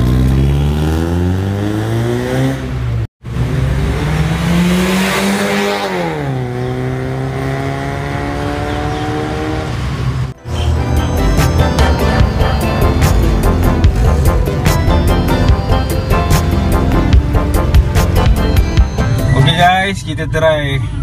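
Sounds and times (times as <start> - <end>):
car engine accelerating: 0.0 - 19.3.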